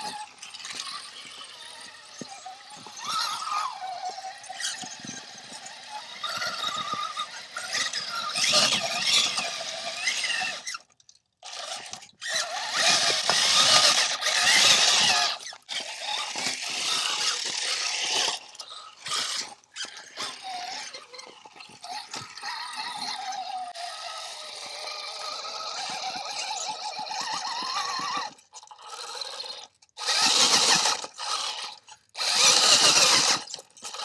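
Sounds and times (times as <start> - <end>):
electric motor whine: 0.0 - 10.7, 11.5 - 34.0.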